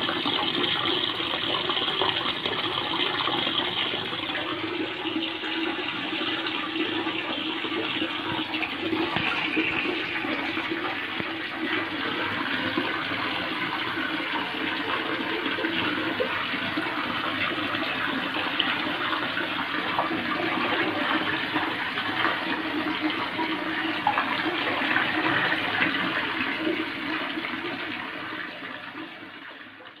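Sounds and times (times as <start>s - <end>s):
aquarium water bubbling: 0.0s - 30.0s.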